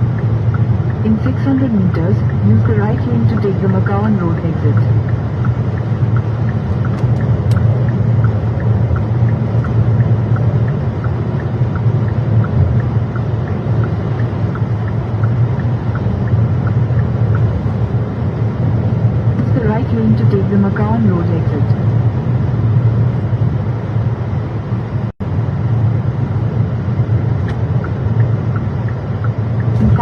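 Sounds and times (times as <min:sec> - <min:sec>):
turn signal ticking: 0:00.0 - 0:21.7, 0:25.2 - 0:30.0
car road and engine rumble: 0:00.0 - 0:30.0.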